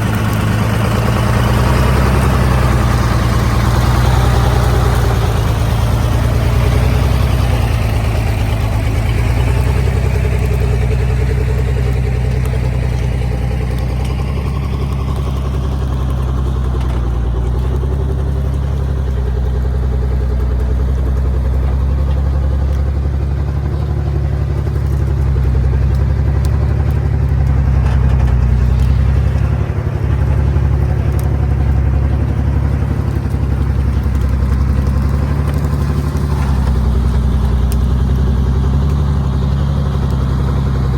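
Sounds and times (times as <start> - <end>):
truck engine droning: 0.0 - 40.9.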